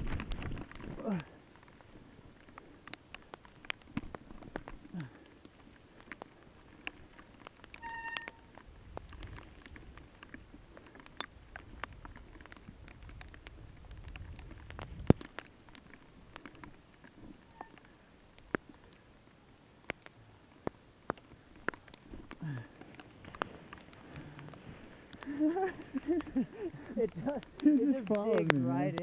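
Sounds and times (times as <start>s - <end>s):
bike rolling over rough trail: 0.0s - 19.2s, 19.8s - 29.0s.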